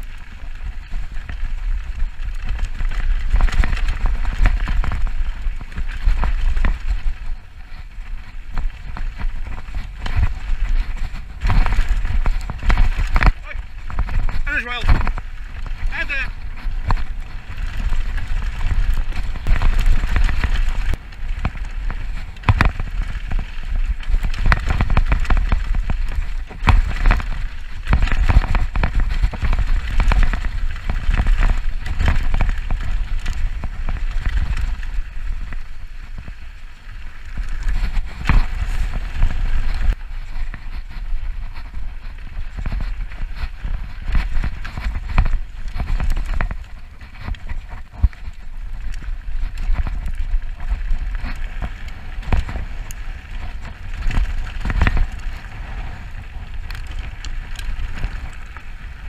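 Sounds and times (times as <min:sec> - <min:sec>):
bike rattling and knocking: 0:00.0 - 0:59.0
tyres rolling over dirt and stones: 0:00.0 - 0:59.0
wind buffeting microphone: 0:00.0 - 0:59.0.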